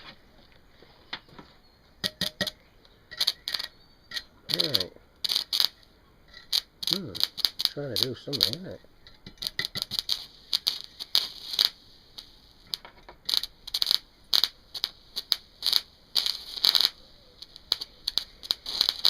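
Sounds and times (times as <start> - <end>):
welding arc crackling and sputtering: 2.0 - 19.0.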